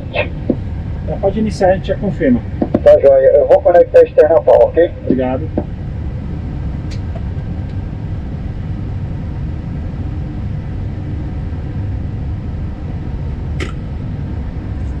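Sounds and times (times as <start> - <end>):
aircraft systems low rumble and hum: 0.0 - 15.0.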